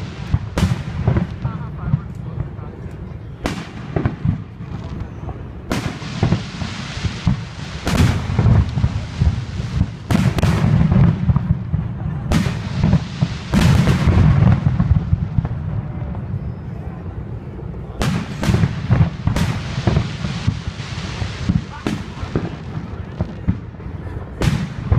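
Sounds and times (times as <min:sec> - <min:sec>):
fireworks crackle: 0:00.0 - 0:16.8, 0:18.0 - 0:24.9
fireworks booming: 0:00.0 - 0:24.9.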